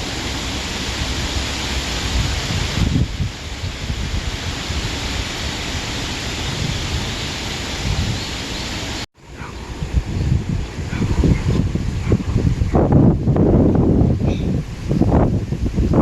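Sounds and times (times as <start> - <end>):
wind blowing through grass: 0.0 - 16.0
wind rumble on microphone: 0.0 - 16.0.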